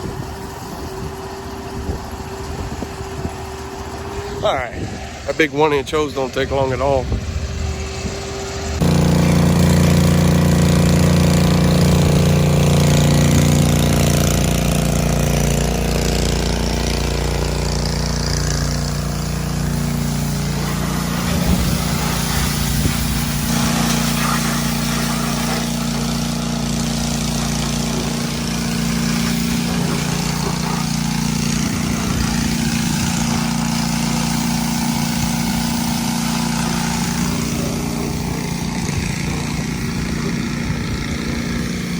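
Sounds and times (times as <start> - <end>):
small gasoline engine running: 0.0 - 41.9
water hissing from hose: 7.8 - 41.9.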